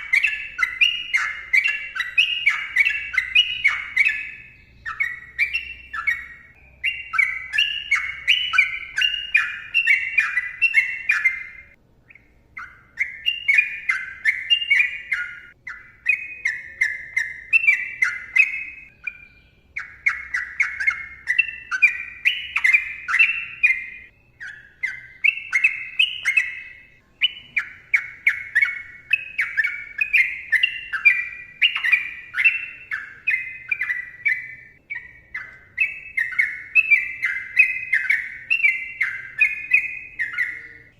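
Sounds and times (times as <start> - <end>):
bird singing rapid phrases: 0.0 - 40.9.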